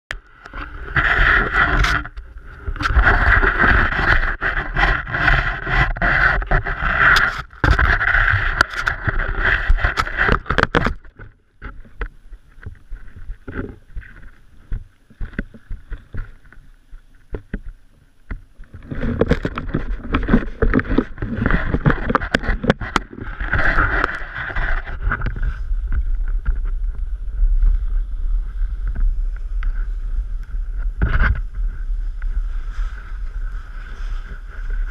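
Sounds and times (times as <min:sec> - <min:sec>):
wind noise: 0:00.1 - 0:34.9
scrapes: 0:00.3 - 0:34.9
rubbing on camera microphone: 0:00.4 - 0:34.9.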